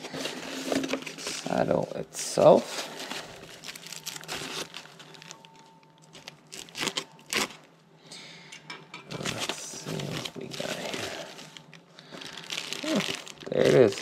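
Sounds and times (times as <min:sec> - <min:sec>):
packaging rustling and crinkling: 0:00.0 - 0:07.7, 0:09.1 - 0:14.0.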